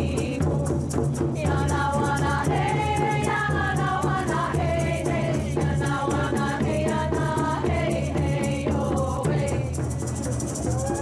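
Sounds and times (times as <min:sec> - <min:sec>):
women singing a chant: 0:00.0 - 0:10.1.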